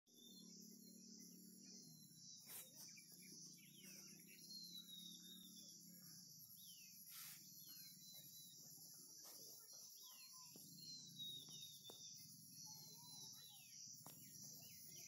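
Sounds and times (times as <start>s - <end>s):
high insect drone: 0.1s - 15.0s.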